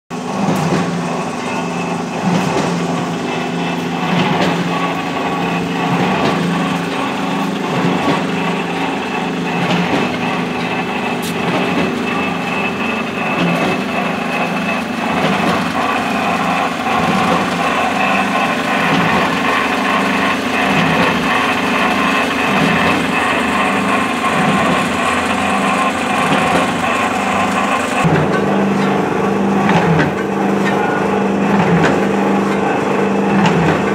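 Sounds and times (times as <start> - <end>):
mixer motor humming with pulse: 0.1 - 33.9.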